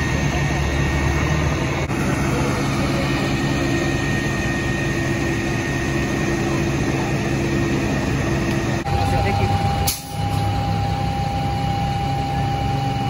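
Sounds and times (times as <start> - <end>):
large vehicle engine idling: 0.0 - 13.0.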